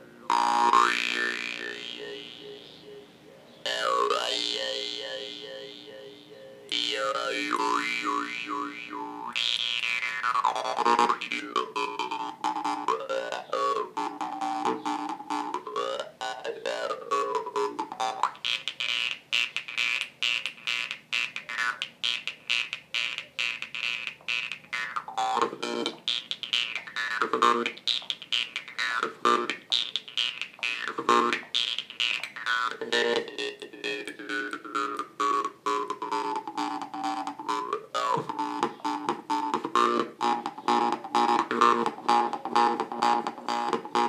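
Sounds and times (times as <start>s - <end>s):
jew's harp plucking: 0.0s - 44.0s.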